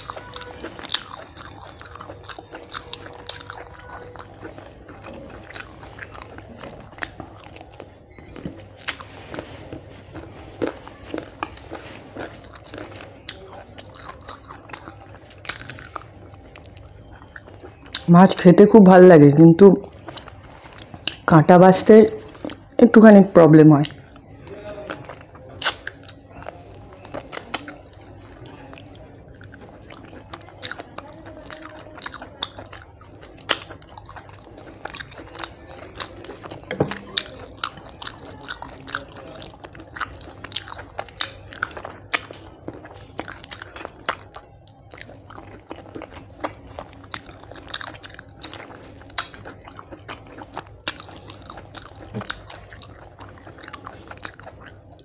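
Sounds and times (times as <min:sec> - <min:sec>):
chewing with mouth clicks: 0:00.0 - 0:23.1, 0:23.7 - 0:55.0.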